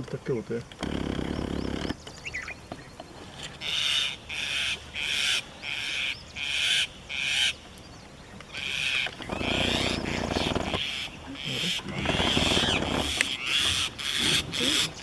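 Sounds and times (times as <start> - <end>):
birds harsh alarm calls: 0.7 - 15.0.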